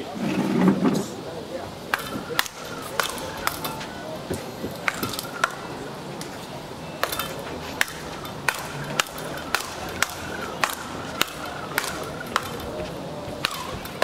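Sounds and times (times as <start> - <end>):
rackets striking ball: 1.8 - 14.0.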